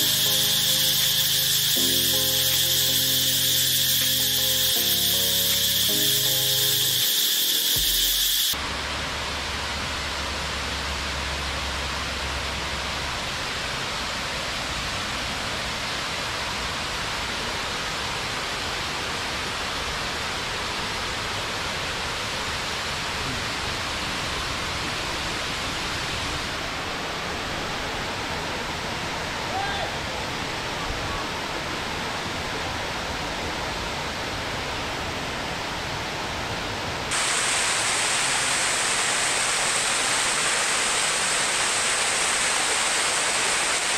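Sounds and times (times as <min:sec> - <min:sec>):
waterfall rushing into pool: 0:00.0 - 0:43.9.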